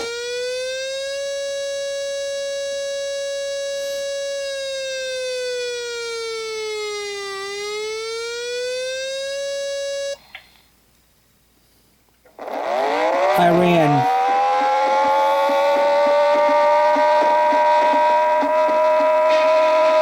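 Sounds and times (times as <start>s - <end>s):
civil defense siren wavering: 0.0s - 10.2s, 12.3s - 20.0s.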